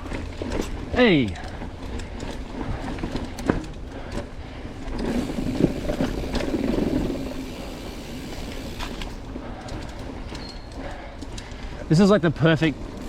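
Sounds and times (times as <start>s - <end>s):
bike rattling: 0.0s - 13.0s
bike tyres on dirt: 0.0s - 13.0s.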